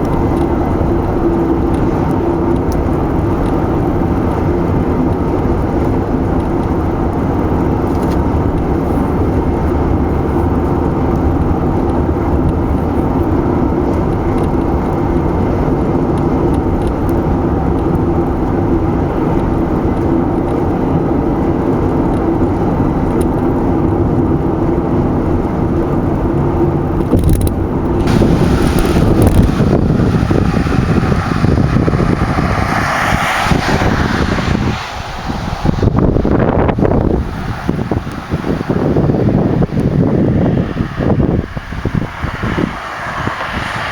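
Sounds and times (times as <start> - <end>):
car road and engine noise: 0.0 - 43.9
wind on microphone: 0.0 - 43.9.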